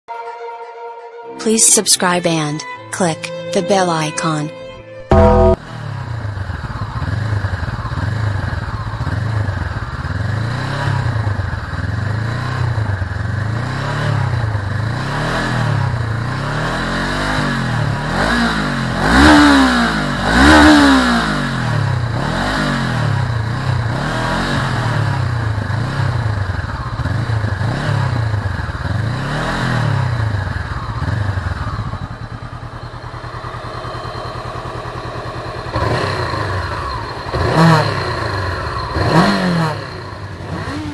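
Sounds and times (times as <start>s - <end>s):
motorcycle engine revving: 5.9s - 40.9s.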